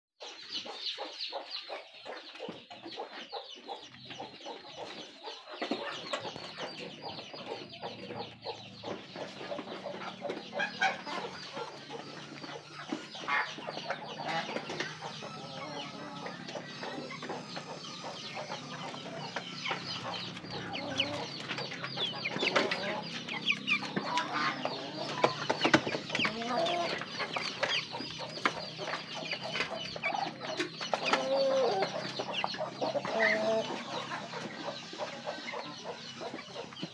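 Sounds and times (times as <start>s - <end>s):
chickens clucking: 0.2s - 36.9s.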